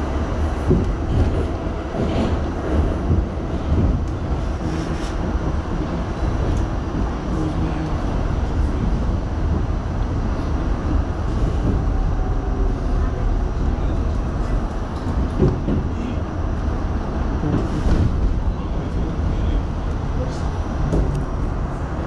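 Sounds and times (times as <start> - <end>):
subway wheels rumbling on rails: 0.0 - 22.0.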